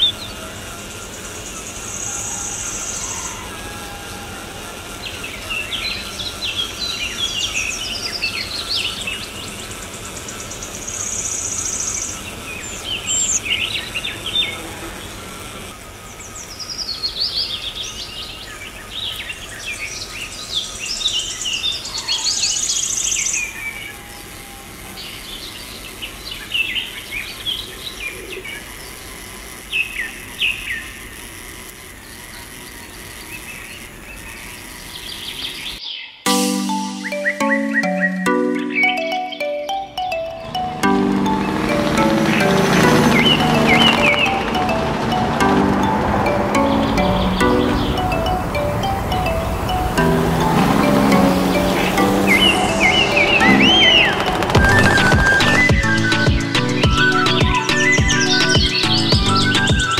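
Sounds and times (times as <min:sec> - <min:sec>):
birds chirping: 0:00.0 - 0:31.2, 0:31.8 - 0:59.9.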